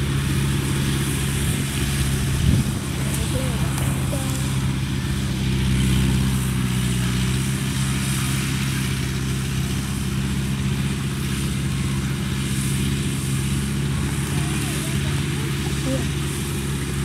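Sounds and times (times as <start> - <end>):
tracked vehicle engine droning: 0.0 - 17.0.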